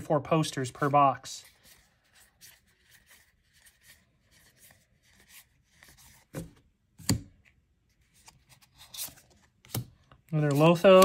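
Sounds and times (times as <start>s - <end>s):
cards sliding against each other: 1.4s - 11.0s.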